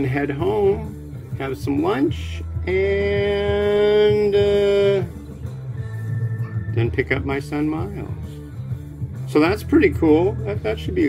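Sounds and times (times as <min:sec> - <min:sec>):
steady bass line: 0:00.0 - 0:11.0.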